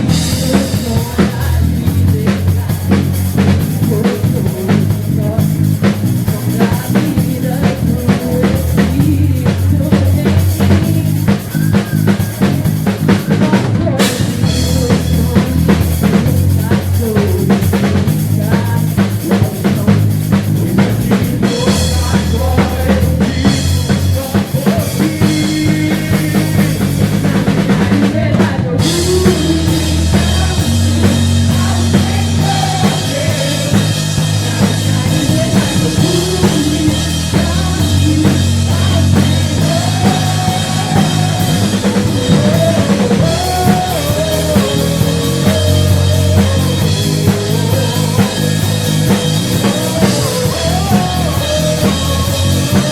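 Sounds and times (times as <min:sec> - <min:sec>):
rock band track: 0:00.0 - 0:52.9.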